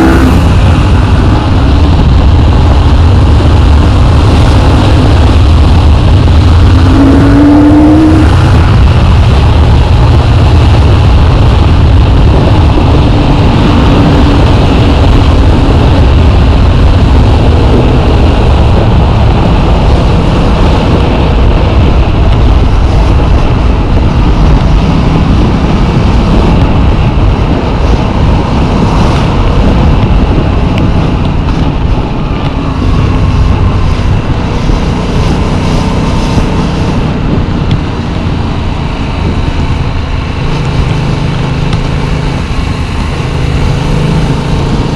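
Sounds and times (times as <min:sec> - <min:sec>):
motorcycle engine under way: 0:00.0 - 0:44.9
wind rumble: 0:00.0 - 0:44.9.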